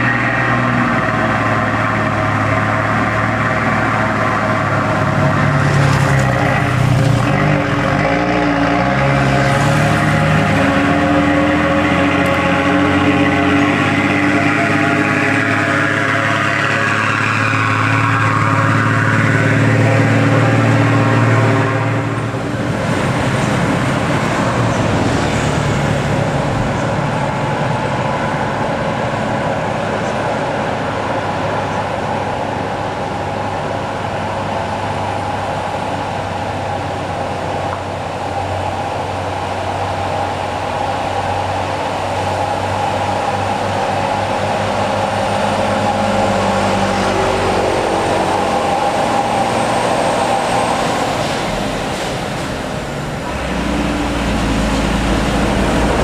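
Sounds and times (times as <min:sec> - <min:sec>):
rough steady engine: 0:00.0 - 0:56.0
truck engine with low hum: 0:00.0 - 0:56.0.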